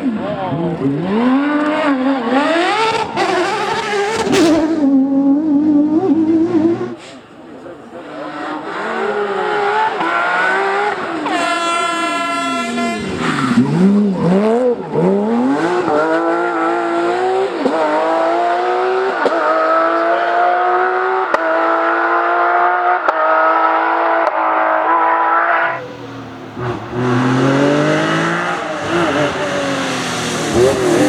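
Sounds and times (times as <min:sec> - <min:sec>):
racing car engine revving: 0:00.0 - 0:31.0.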